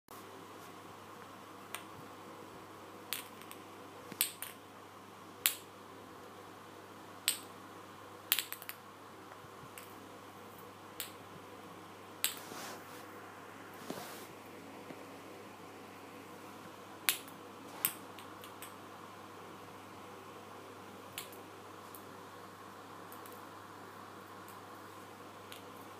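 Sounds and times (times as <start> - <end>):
faint steady hum: 0.1 - 25.9.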